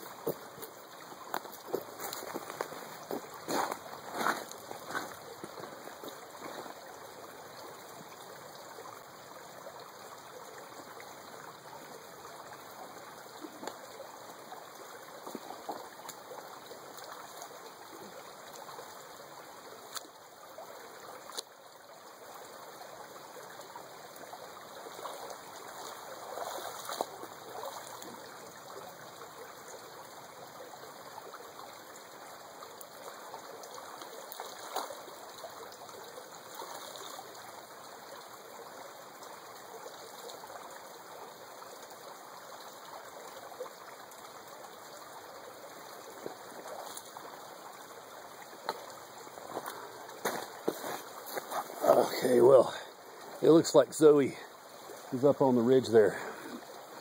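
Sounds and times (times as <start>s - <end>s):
creek flowing and trickling: 0.0s - 57.0s.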